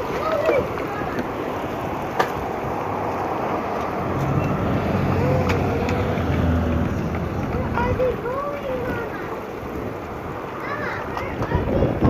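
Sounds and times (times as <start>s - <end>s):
road traffic: 0.0s - 12.0s
vehicle engine hum: 0.2s - 10.6s
wind rushing over microphone: 1.0s - 12.0s.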